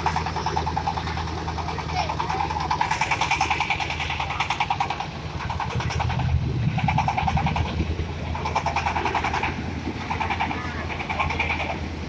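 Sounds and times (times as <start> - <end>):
small diesel engine chugging: 0.0 - 12.0.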